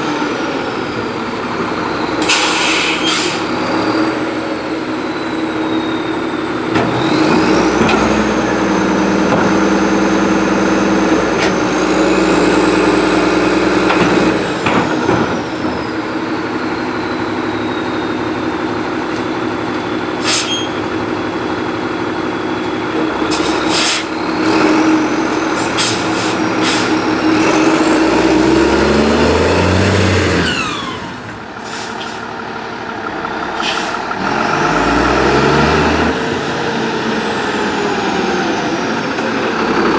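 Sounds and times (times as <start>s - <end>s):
diesel engine hum: 0.0s - 39.9s
hydraulic whine: 0.0s - 39.9s.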